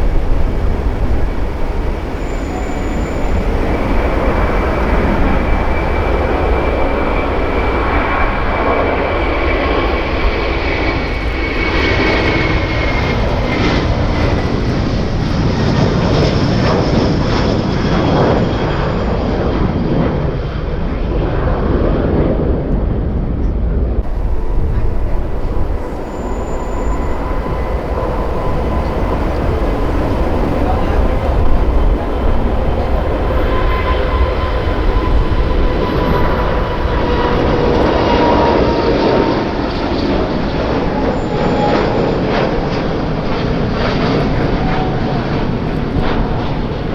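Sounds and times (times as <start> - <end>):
high turbine whine: 0.0 - 17.9, 24.0 - 46.9
jet engines roaring: 0.0 - 46.9.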